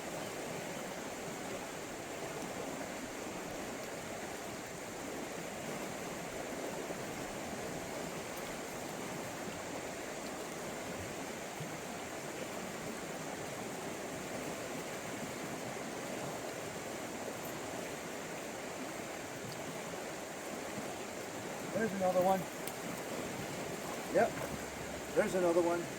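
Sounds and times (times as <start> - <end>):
flowing river water: 0.0 - 25.9.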